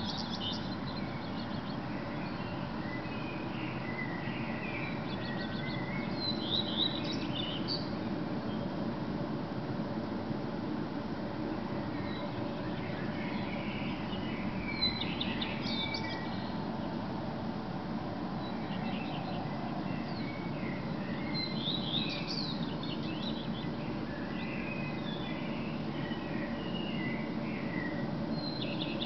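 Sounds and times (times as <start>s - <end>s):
bird twittering song: 0.0s - 8.8s, 11.8s - 17.0s, 18.4s - 29.0s.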